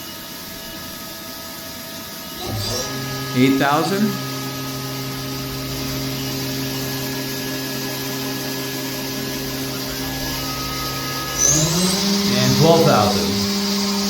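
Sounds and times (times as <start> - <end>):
machine spindle whine: 0.0 - 14.0.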